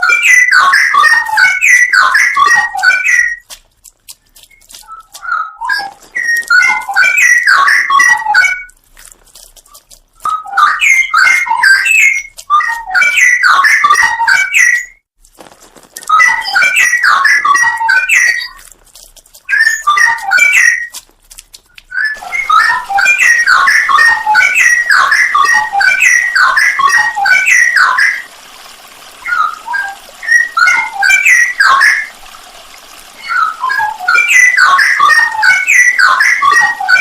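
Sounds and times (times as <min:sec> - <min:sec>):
bird singing whistled phrases: 0:00.0 - 0:03.4, 0:04.4 - 0:08.7, 0:10.2 - 0:15.0, 0:16.0 - 0:18.7, 0:19.5 - 0:21.0, 0:21.9 - 0:28.3, 0:29.2 - 0:32.2, 0:33.2 - 0:37.0.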